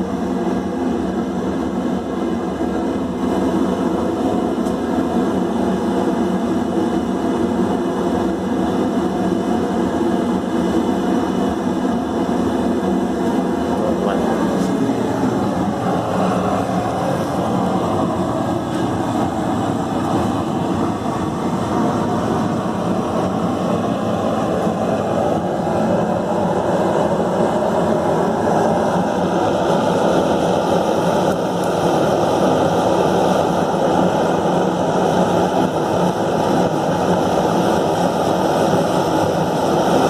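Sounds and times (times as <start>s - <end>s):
gas forge burner roaring: 0.0s - 40.0s.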